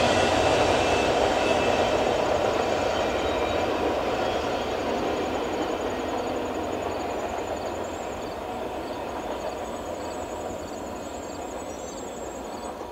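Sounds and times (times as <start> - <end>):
freight train wheels rumbling on track: 0.0 - 12.9.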